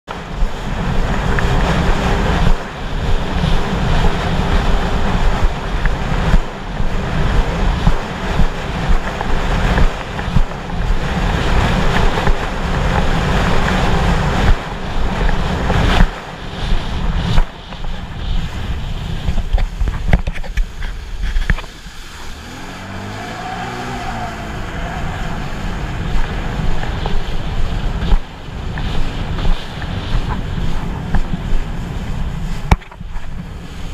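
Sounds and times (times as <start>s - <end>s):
water rushing under hull: 0.0s - 33.9s
wavering watercraft engine: 0.1s - 33.9s
wind buffeting microphone: 0.1s - 33.9s.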